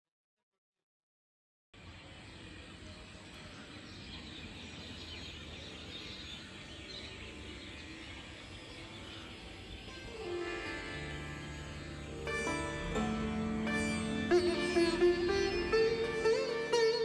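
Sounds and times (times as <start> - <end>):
birds chirping: 1.8 - 17.0.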